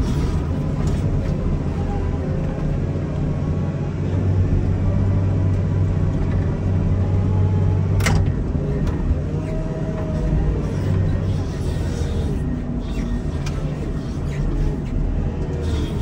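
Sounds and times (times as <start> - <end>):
diesel engine rumbling under load: 0.0 - 16.0.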